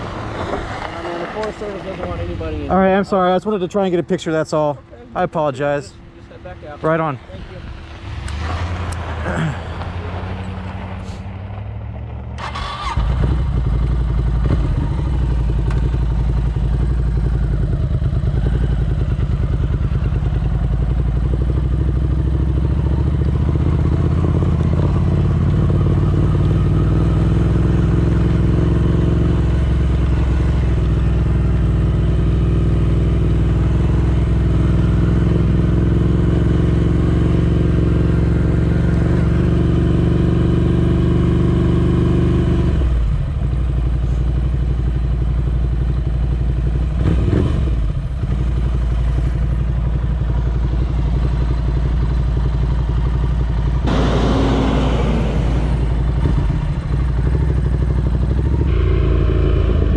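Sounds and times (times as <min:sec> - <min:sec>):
motorcycle engine running: 0:11.8 - 0:59.9.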